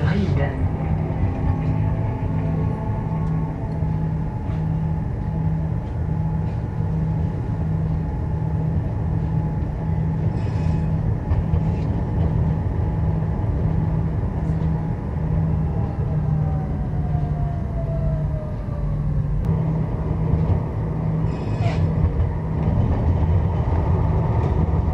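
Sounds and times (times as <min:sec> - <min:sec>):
pulsing low hum: 0:00.0 - 0:24.9
tram rumbling on rails: 0:00.0 - 0:24.9.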